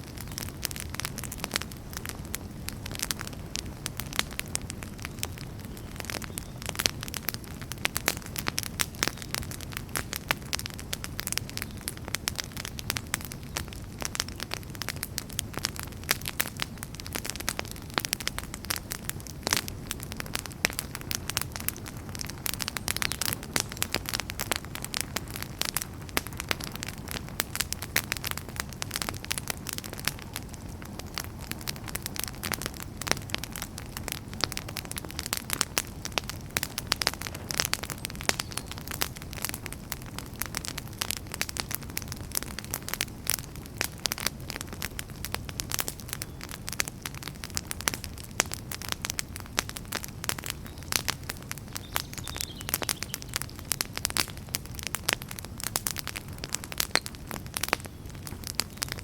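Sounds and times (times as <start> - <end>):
campfire crackling: 0.0 - 59.0
low rumble of fire: 0.0 - 59.0.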